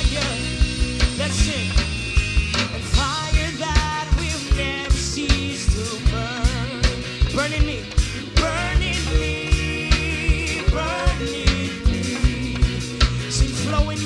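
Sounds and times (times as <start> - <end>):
band playing upbeat rock: 0.0 - 14.0.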